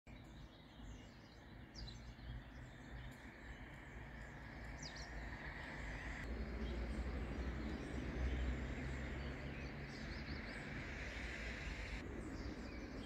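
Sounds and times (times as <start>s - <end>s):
low outdoor rumble: 0.8s - 13.0s.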